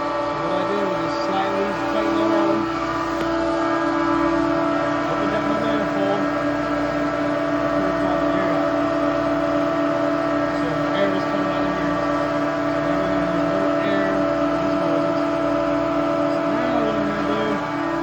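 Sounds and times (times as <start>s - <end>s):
refrigeration compressor drone: 0.0s - 18.0s.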